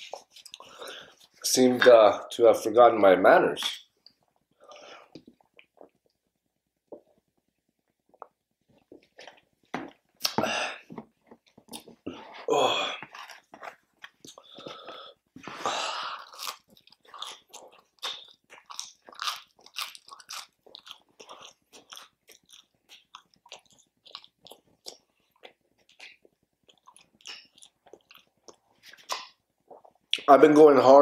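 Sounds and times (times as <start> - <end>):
person chewing food: 0.0 - 1.4, 3.7 - 30.3.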